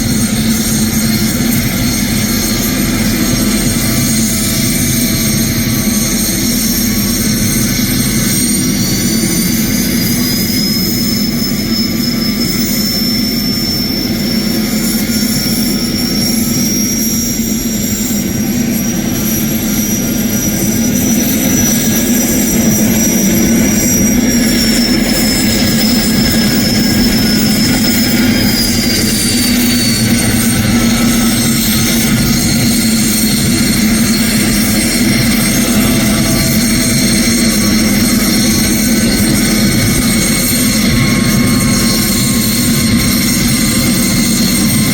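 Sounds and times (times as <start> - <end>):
helicopter engine hum: 0.0 - 44.9
high turbine whine: 0.0 - 44.9.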